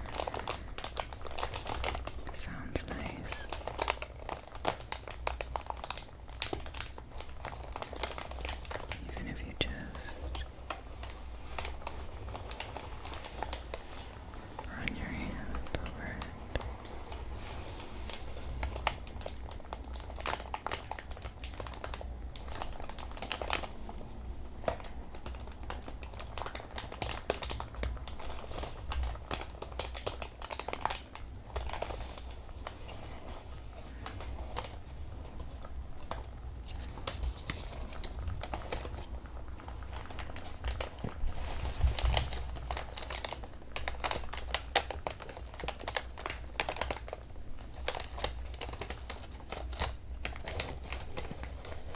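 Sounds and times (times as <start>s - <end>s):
packing paper crumpling: 0.0s - 51.9s.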